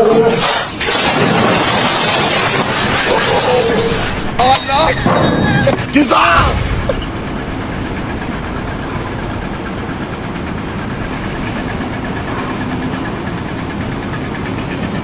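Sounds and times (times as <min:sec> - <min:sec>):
engine running steadily: 0:02.5 - 0:15.0.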